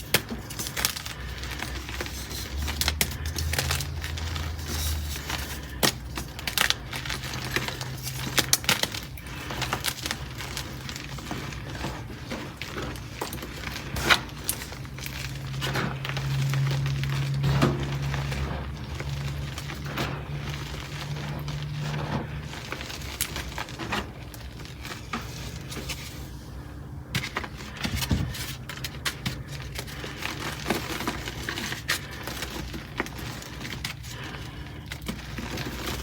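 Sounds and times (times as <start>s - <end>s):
chalk being crushed: 0.0s - 36.0s.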